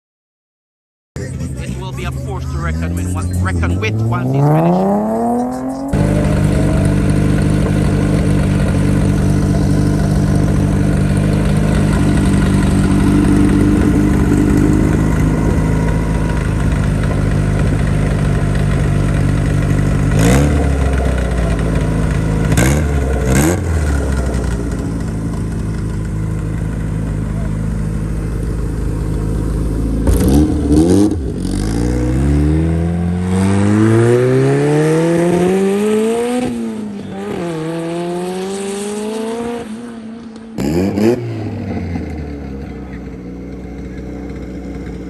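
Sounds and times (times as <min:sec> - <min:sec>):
car engine idling: 0:01.2 - 0:34.3, 0:40.2 - 0:45.0
engine throttle blips: 0:01.2 - 0:45.0.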